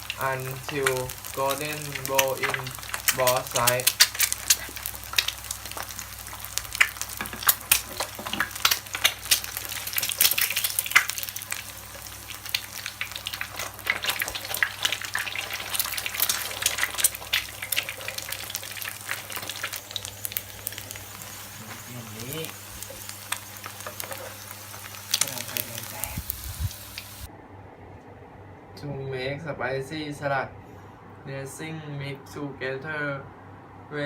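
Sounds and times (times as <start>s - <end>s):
egg sizzling in oil: 0.0s - 27.3s
oil crackling pops: 0.0s - 27.3s.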